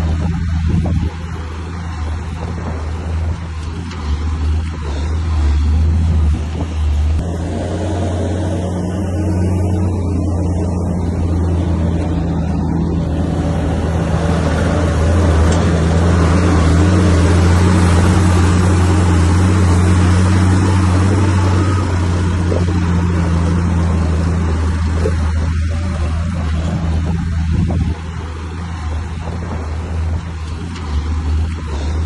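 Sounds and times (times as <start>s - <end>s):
bulldozer diesel engine humming: 0.0s - 32.0s.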